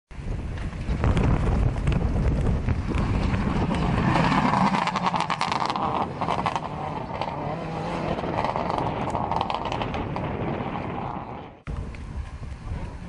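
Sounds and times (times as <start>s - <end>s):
engine crackles: 0.4s - 13.0s
rally car engine at full throttle: 0.7s - 13.0s.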